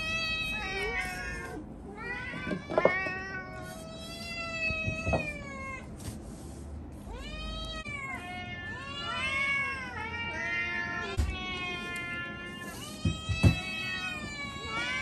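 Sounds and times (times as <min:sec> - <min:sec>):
cats meowing: 0:00.0 - 0:06.0, 0:07.0 - 0:15.0.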